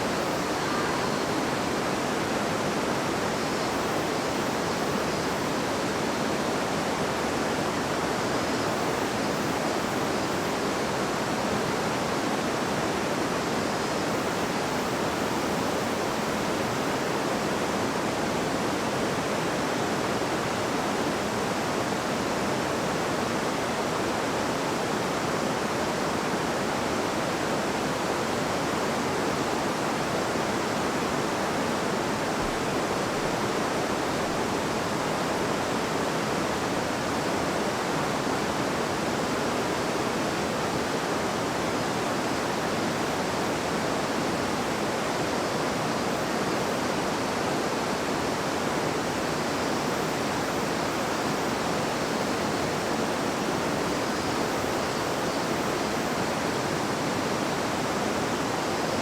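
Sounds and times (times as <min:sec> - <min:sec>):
river water babbling: 0:00.0 - 0:20.2, 0:29.2 - 0:59.0.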